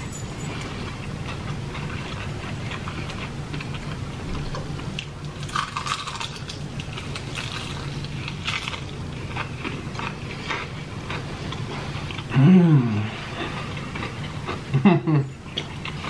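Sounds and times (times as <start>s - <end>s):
steady low hum: 0.0s - 16.0s
chewing crispy fried chicken: 0.6s - 16.0s.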